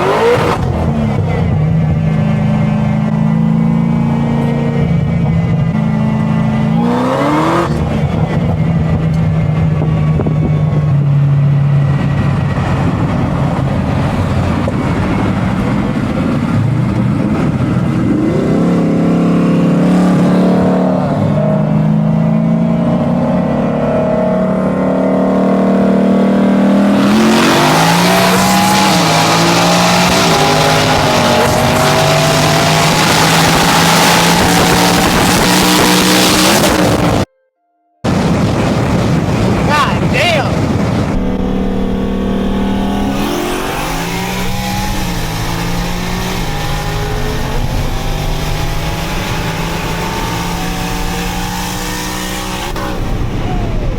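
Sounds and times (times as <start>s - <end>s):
turbocharged car engine revving: 0.0s - 37.3s, 38.1s - 53.9s.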